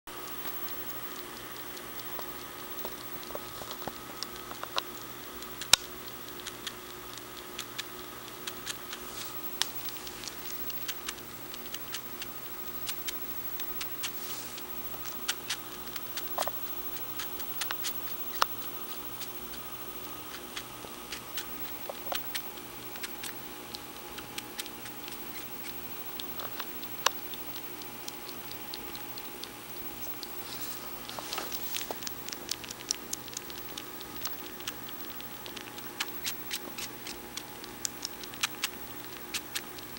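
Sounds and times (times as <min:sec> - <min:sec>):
kitten suckling clicks: 0:00.4 - 0:39.9.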